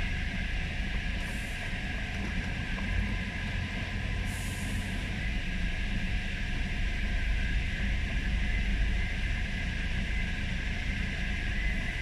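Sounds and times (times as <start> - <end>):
low rumble of vehicles driving: 0.0 - 12.0.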